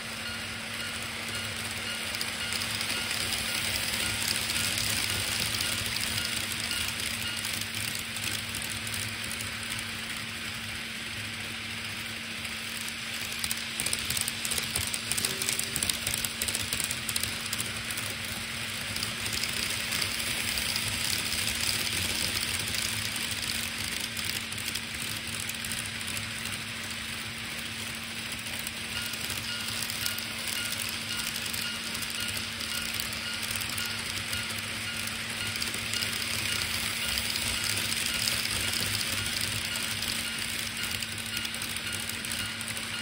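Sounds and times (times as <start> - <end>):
model train hum: 0.0 - 43.0
wheels clicking over rail joints: 1.2 - 10.2, 12.4 - 43.0.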